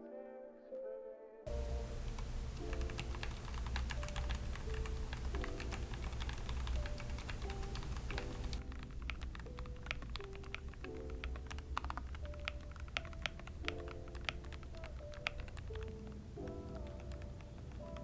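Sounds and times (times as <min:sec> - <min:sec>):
background music: 0:00.0 - 0:18.0
mechanical keyboard typing: 0:01.5 - 0:18.0.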